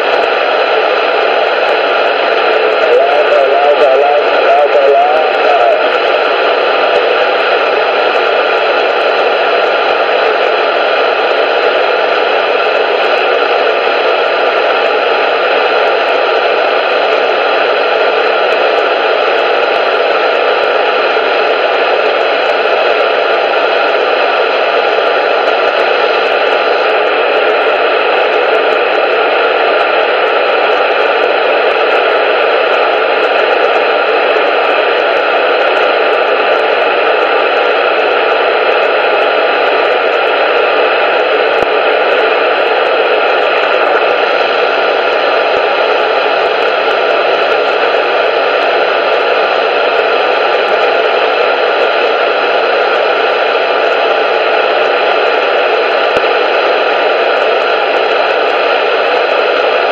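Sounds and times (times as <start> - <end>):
radio static hiss: 0.0 - 59.9.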